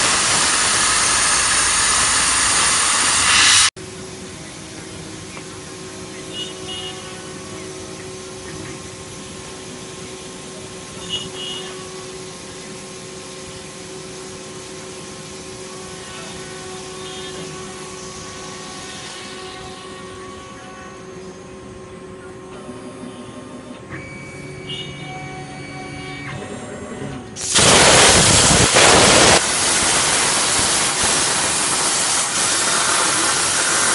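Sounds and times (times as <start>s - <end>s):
plasma cutter machine hum: 0.0s - 23.7s, 27.4s - 33.9s.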